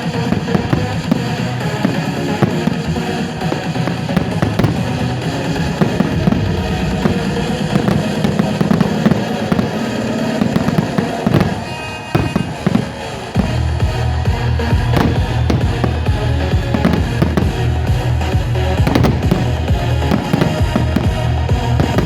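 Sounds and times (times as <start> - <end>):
fireworks bangs and crackles: 0.0 - 22.0
loud music: 0.0 - 22.0.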